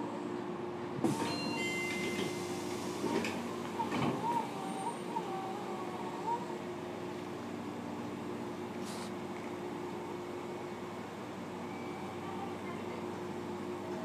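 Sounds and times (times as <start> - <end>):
train interior hum and whine: 0.0 - 14.0.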